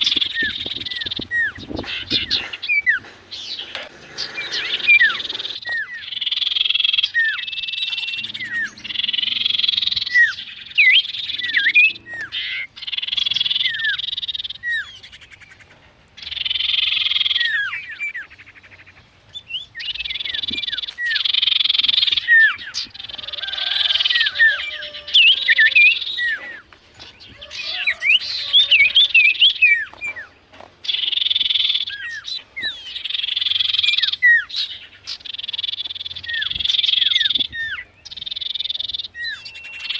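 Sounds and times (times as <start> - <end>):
songbird trilled chatter: 0.0 - 39.9.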